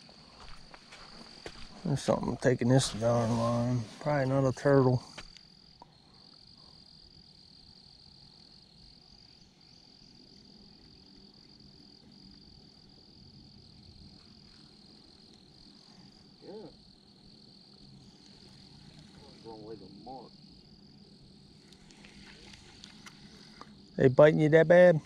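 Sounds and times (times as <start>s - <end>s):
insect chorus trilling: 0.0s - 25.0s.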